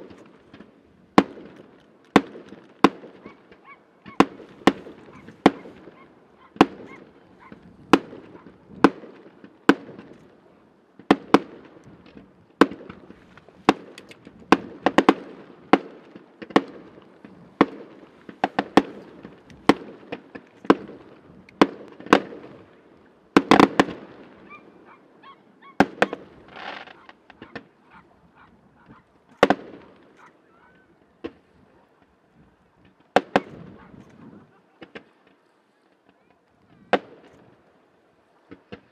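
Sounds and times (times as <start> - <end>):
fireworks bangs: 0.0 - 37.8, 38.4 - 38.9.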